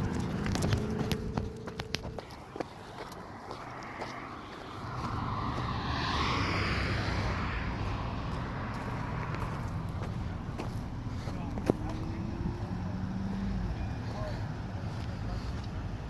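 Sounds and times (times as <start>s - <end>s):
steady low rumble: 0.0s - 16.0s
vehicle passing by: 0.0s - 16.0s.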